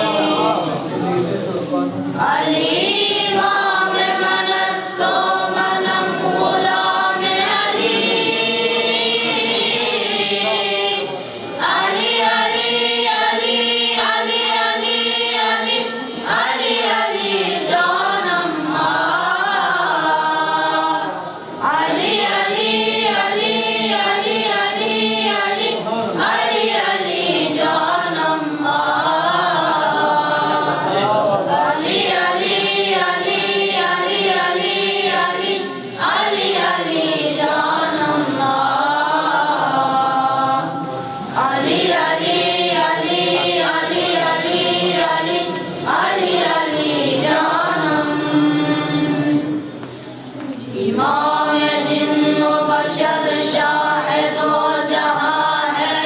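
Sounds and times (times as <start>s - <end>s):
boys' choir singing unaccompanied: 0.0s - 56.0s.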